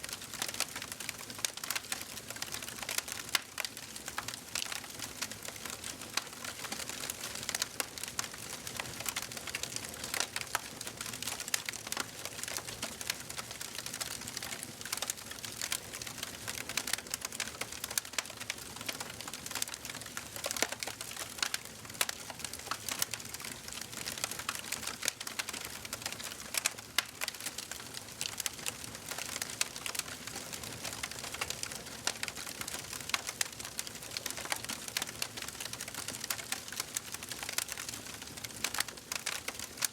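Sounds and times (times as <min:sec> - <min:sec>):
soft steady hiss: 0:00.0 - 0:39.9
wood fire crackling and popping: 0:00.1 - 0:39.9.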